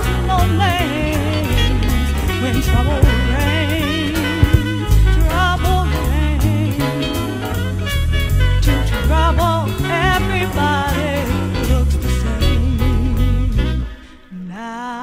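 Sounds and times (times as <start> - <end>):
drum kit: 0.0 - 13.4
wavering lead melody with vibrato: 0.0 - 14.3
bass: 0.0 - 14.4.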